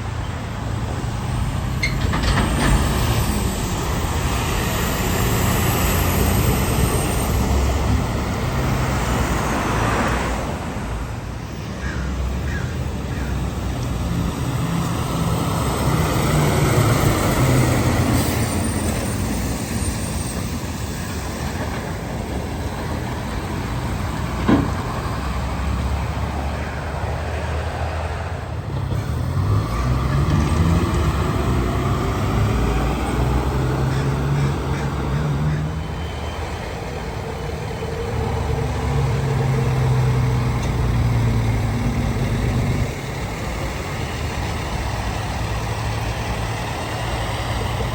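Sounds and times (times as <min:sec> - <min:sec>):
trucks and traffic passing: 0:00.0 - 0:47.9.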